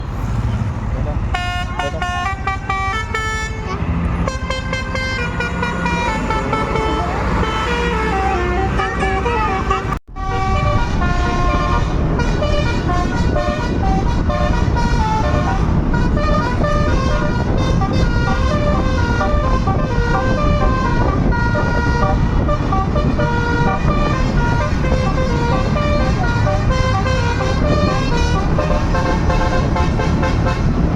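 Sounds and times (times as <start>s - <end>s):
engine and road noise: 0.0s - 30.9s
multi-tone air horn melody: 1.3s - 30.9s.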